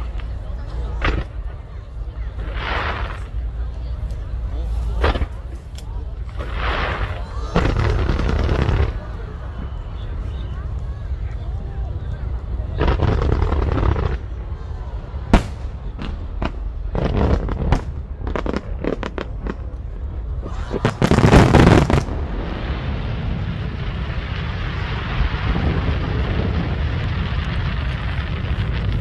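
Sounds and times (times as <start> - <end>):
firework crackling burst: 0.0 - 29.0
fireworks cracking: 0.0 - 29.0
outdoor noise: 0.0 - 29.0
firework bang: 4.9 - 29.0.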